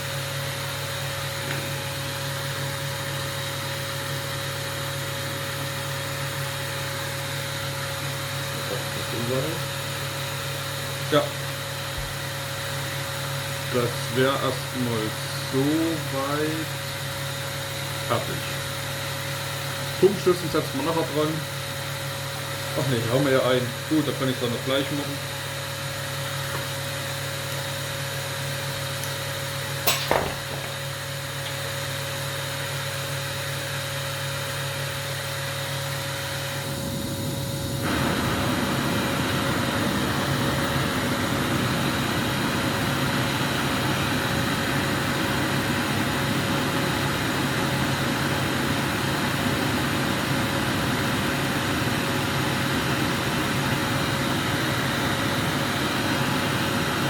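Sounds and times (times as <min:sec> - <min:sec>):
gas burner flame hissing: 0:00.0 - 0:57.0
workshop machinery hum: 0:00.0 - 0:57.0.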